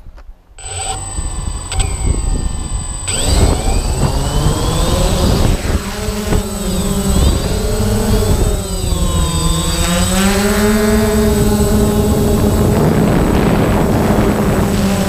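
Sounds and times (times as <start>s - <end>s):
drone motors and propellers whining: 0.6s - 15.0s.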